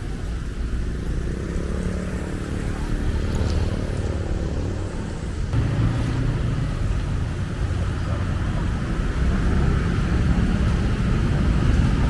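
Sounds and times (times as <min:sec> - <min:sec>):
vehicle engine running: 0:00.1 - 0:12.0.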